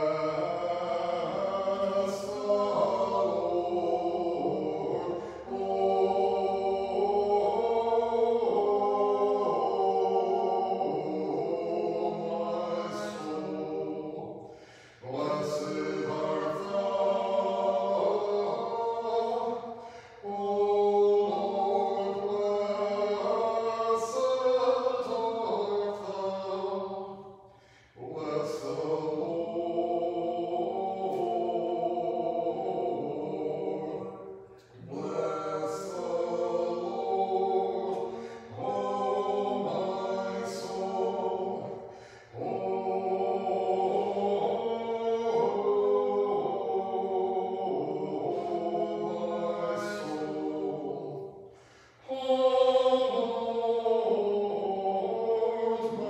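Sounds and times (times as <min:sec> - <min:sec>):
choir singing a cappella chant: 0:00.0 - 0:56.0.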